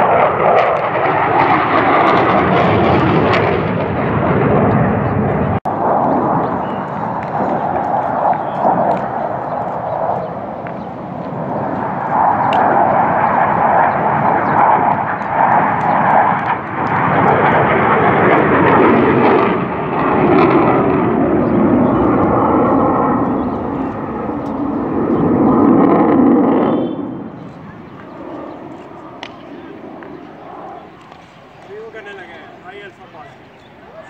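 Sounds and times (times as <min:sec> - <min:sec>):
jet aircraft flying overhead: 0:00.0 - 0:34.0.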